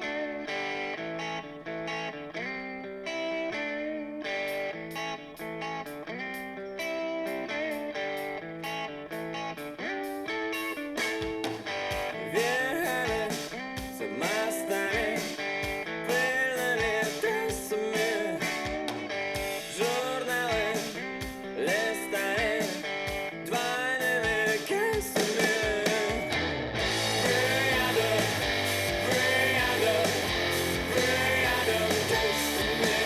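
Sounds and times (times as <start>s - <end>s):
guitar rock music over loudspeakers: 0.0s - 33.0s.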